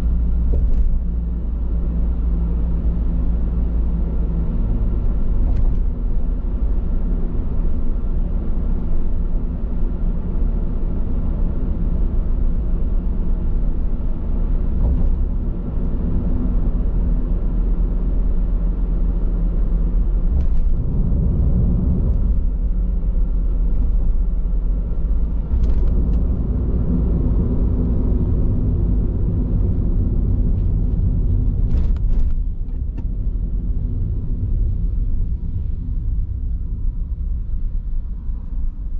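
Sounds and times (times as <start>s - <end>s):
car road noise rumble: 0.0s - 38.9s.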